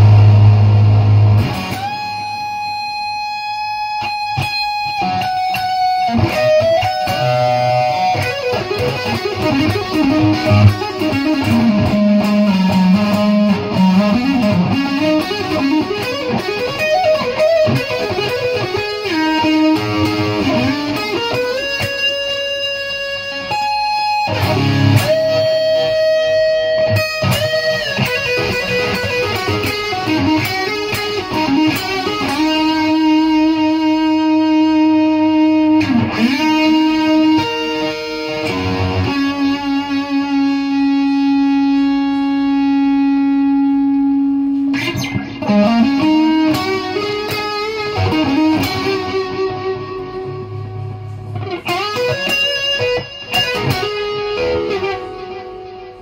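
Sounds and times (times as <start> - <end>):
distorted electric guitar lead: 0.0 - 56.0.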